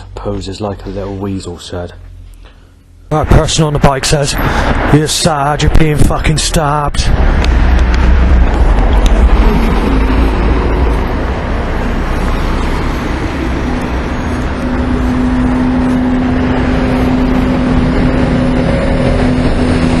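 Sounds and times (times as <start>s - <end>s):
car road noise rumble: 0.0s - 20.0s
steady humming tone: 0.0s - 20.0s.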